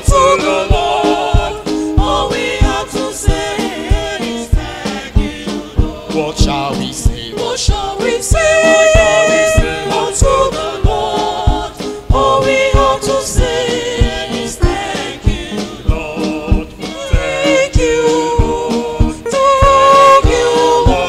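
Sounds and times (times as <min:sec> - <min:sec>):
choir singing gospel song: 0:00.0 - 0:21.0
steady drum beat: 0:00.0 - 0:21.0.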